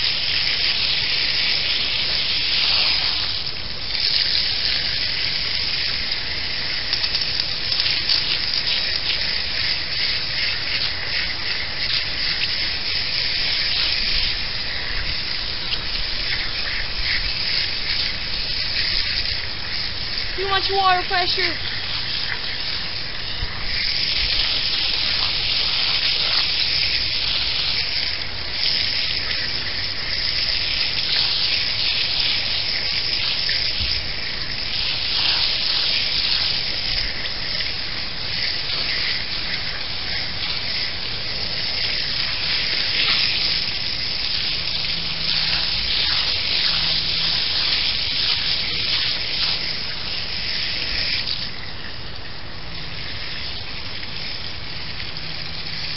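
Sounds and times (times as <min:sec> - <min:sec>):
hose water spraying on filter: 0:00.0 - 0:55.9.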